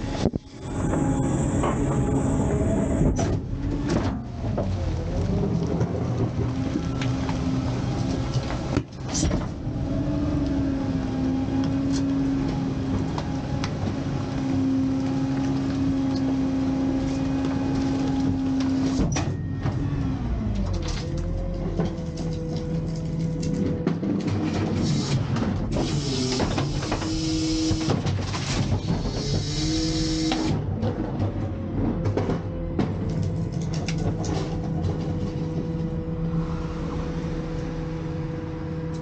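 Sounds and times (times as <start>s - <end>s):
garbage truck hydraulics whining: 0.0s - 39.0s.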